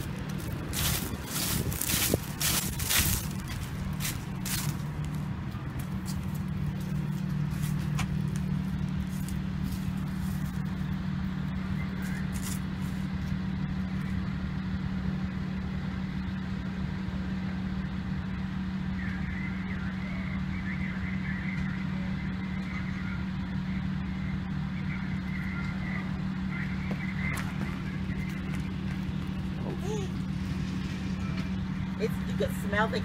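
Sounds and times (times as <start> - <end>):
low mechanical drone: 0.0 - 33.0.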